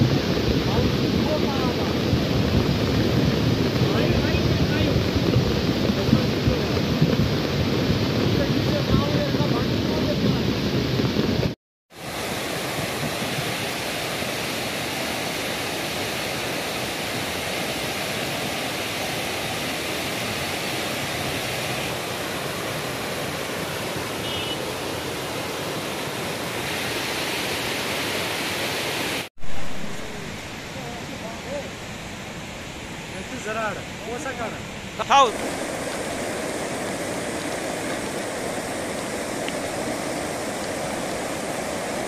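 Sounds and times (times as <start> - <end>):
flood water rushing: 0.0 - 42.0.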